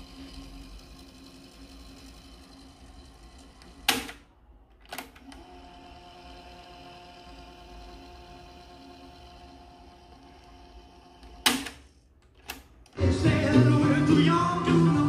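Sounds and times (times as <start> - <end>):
tape transport whirring: 0.0 - 15.0.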